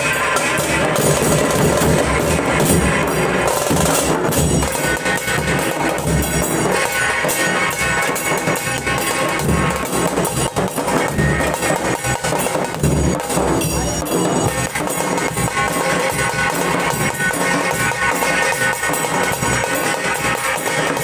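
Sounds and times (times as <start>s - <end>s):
dhol drums beating: 0.0s - 21.0s.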